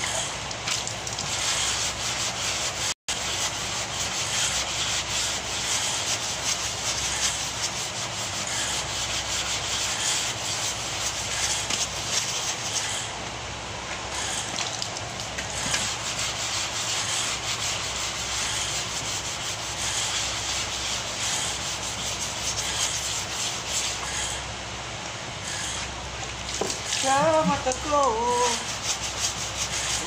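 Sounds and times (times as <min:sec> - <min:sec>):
sandpaper sanding metal panel: 0:00.0 - 0:13.1, 0:15.4 - 0:24.4, 0:26.8 - 0:30.0.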